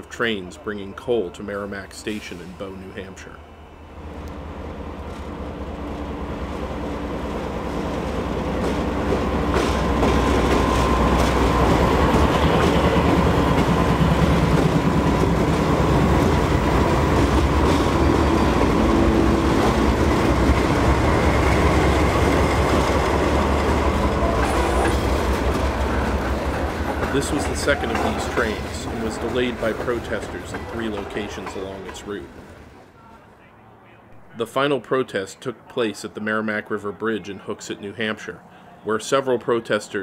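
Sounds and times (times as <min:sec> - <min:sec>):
diesel locomotive engine drone: 0:00.0 - 0:34.4.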